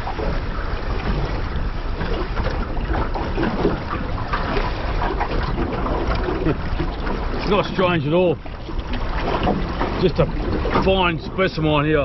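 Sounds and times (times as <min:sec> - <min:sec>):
water slapping boat hull: 0:00.0 - 0:12.0
wind buffeting microphone: 0:00.0 - 0:12.0.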